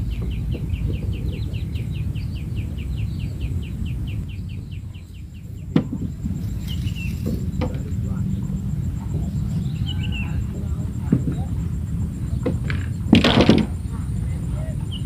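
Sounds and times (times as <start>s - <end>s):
bird chirping rapidly: 0.0s - 13.1s
wind rumble on microphone: 0.0s - 15.0s.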